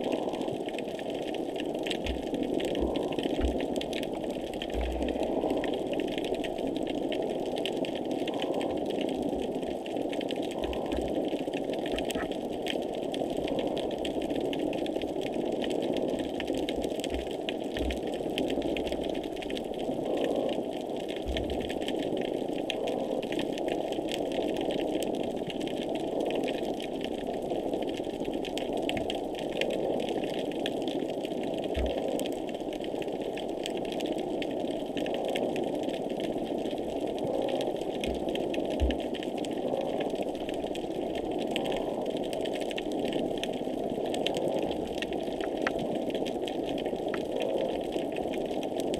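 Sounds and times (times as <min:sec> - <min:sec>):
underwater hiss and clicks: 0:00.0 - 0:48.9.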